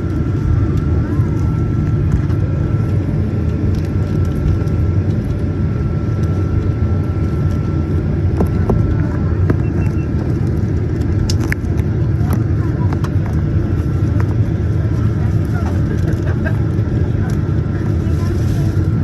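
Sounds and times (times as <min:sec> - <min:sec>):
airplane cabin rumble: 0:00.0 - 0:19.0
thin steady whine: 0:00.0 - 0:19.0.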